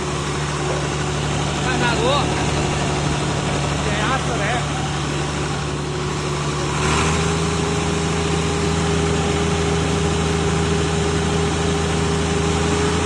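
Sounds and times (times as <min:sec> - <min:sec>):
wood chipper diesel engine: 0:00.0 - 0:13.0.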